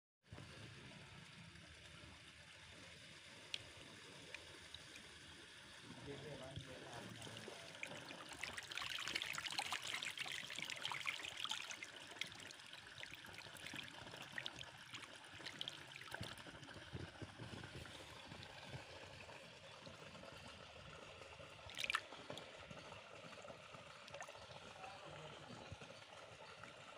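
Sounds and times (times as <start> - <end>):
water splashing and trickling: 0.4 - 26.9.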